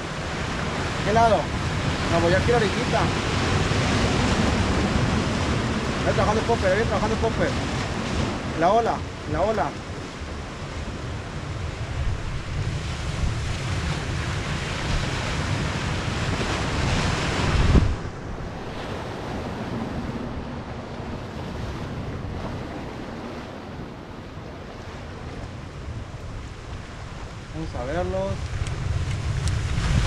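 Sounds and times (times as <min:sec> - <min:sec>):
surf washing onto cobble shore: 0:00.0 - 0:30.0
wind buffeting microphone: 0:00.0 - 0:30.0.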